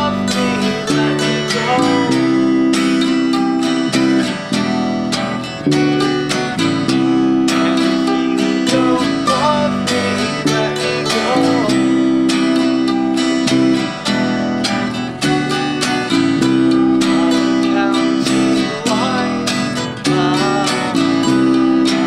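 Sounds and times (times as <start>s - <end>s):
acoustic guitar strumming: 0.0s - 22.0s
bass: 0.0s - 22.0s
mandolin: 0.0s - 22.0s.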